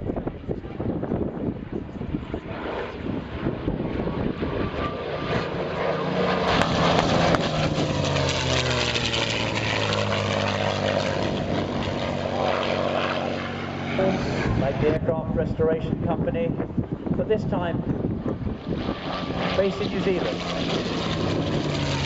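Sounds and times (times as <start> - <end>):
propeller fighter plane flying past: 0.0 - 22.0.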